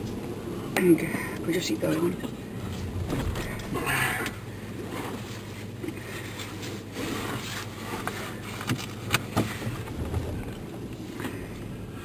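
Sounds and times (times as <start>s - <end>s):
vehicle engine rumble inside cabin: 0.0s - 12.0s.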